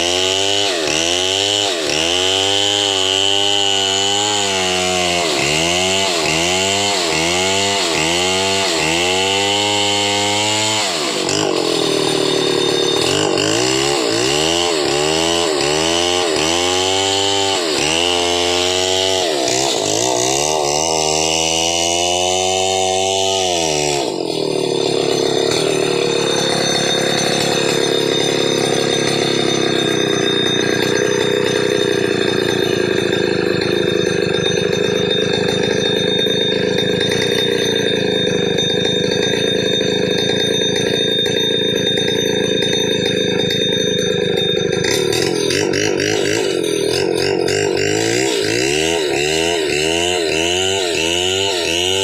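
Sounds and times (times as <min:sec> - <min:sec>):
chainsaw running: 0:00.0 - 0:52.0.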